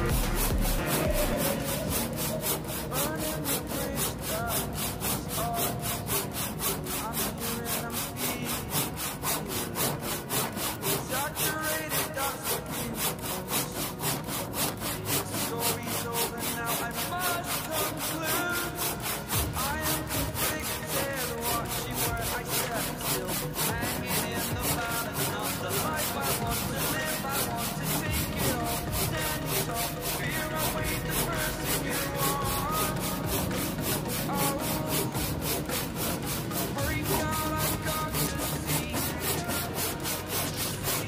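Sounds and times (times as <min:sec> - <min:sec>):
hand saw cutting wood: 0:00.0 - 0:41.0.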